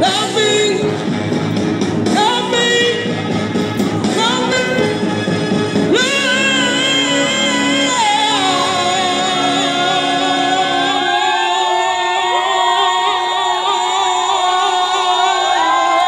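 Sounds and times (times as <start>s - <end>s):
woman singing through amplifier: 0.0s - 1.0s, 2.1s - 5.0s, 5.9s - 16.0s.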